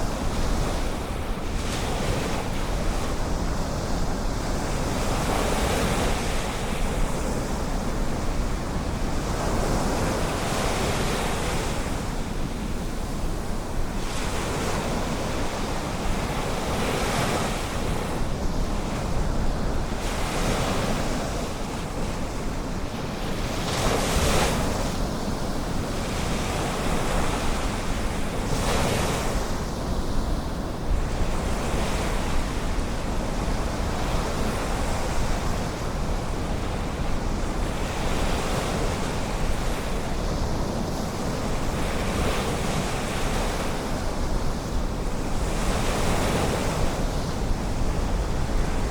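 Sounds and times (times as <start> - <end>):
wind on microphone: 0.0 - 48.9.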